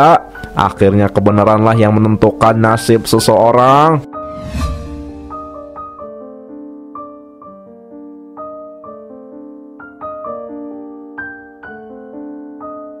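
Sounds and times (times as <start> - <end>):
soft piano music: 0.0 - 4.3, 4.9 - 13.0.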